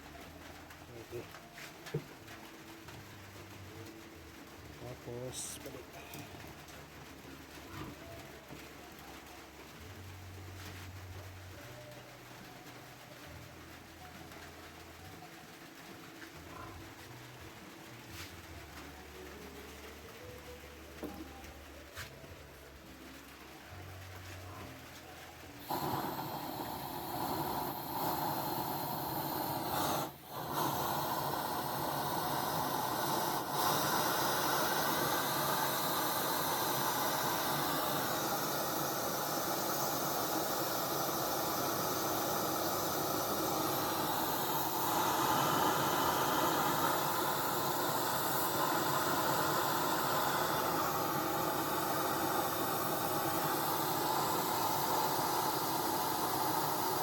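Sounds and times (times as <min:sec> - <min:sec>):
oil burner flame hissing: 0:00.0 - 0:57.0.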